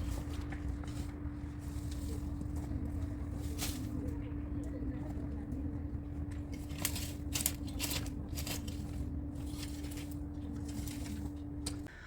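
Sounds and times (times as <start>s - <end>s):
wheelbarrow rolling rumble: 0.0s - 11.9s.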